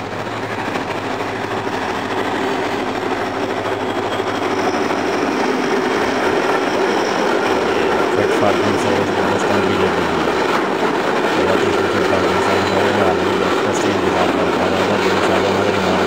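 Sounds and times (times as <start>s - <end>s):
locomotive engine running: 0.0s - 16.0s
train wheels rumbling on rails: 0.0s - 16.0s.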